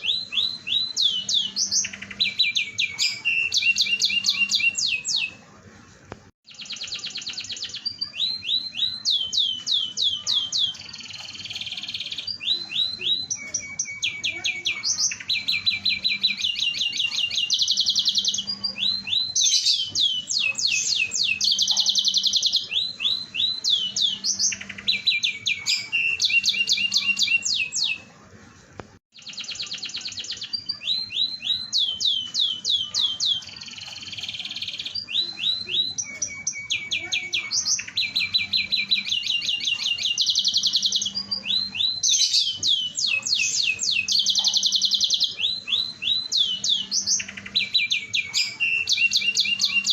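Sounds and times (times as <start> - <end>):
canary singing trills: 0.0 - 5.7, 6.4 - 28.3, 29.1 - 49.9.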